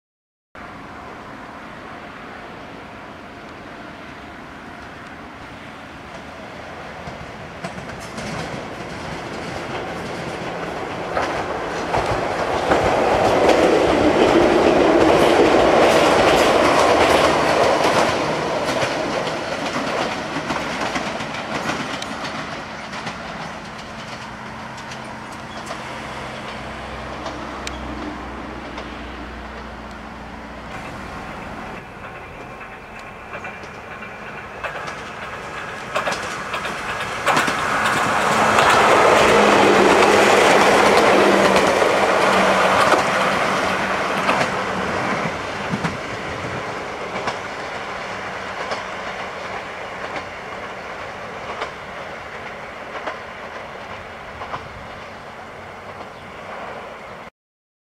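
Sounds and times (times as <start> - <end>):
electric train passing: 0.6 - 57.3
wheels clattering over rail joints: 7.0 - 29.7, 30.7 - 55.1.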